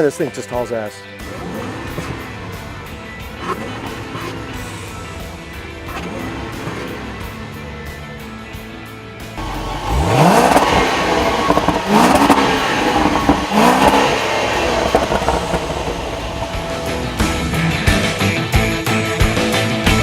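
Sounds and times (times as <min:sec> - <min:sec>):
car engine accelerating hard: 0:01.2 - 0:19.6.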